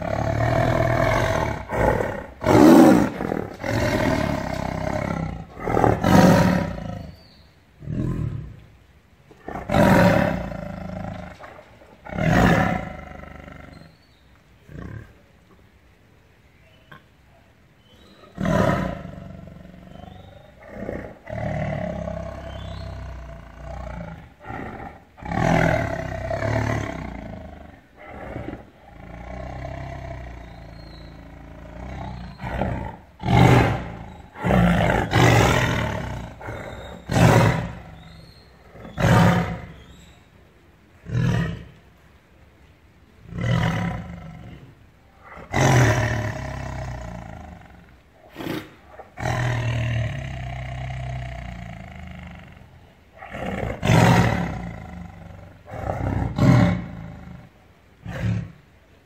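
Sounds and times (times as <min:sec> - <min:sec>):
tiger roaring: 0:00.0 - 0:07.2, 0:09.4 - 0:13.9, 0:18.2 - 0:40.1, 0:41.0 - 0:41.8, 0:43.2 - 0:58.7.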